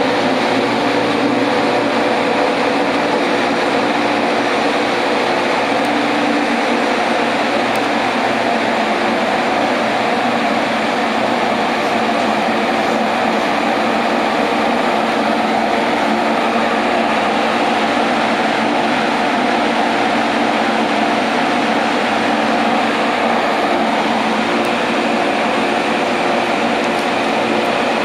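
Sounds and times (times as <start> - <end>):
electric train equipment humming: 0.0 - 28.0.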